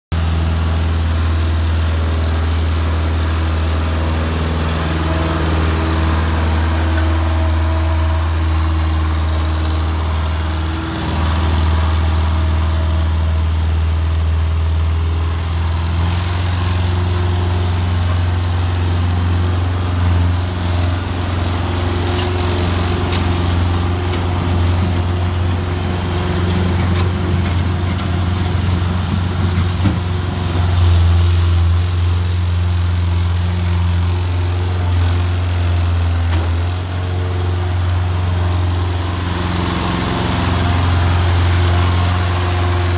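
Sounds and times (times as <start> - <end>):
skid steer diesel engine running: 0.1 - 42.9.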